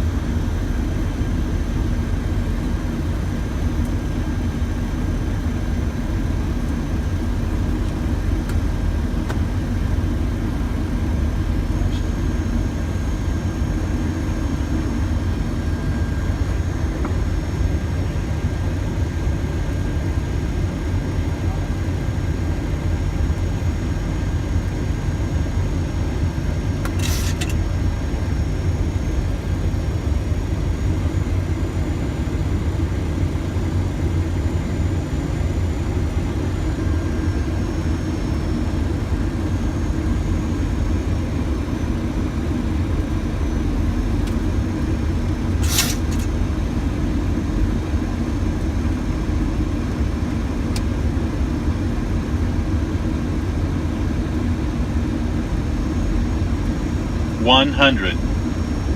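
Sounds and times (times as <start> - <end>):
low rumble of airflow and engines: 0.0 - 58.9.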